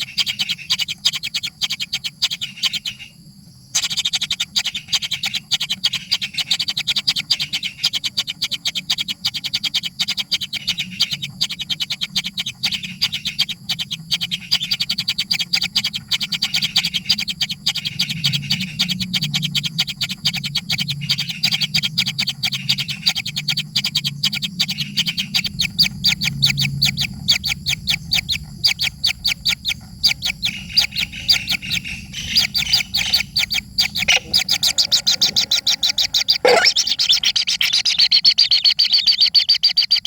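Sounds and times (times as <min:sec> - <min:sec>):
chicks chirping: 0:03.8 - 0:40.0.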